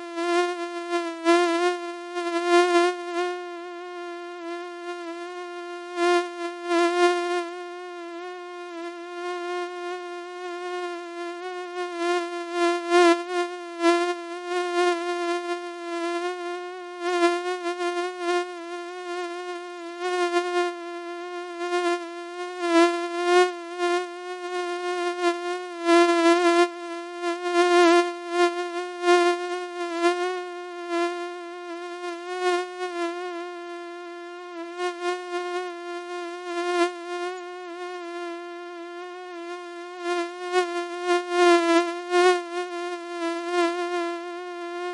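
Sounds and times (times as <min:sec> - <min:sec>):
mosquito whine: 0:00.0 - 0:44.9.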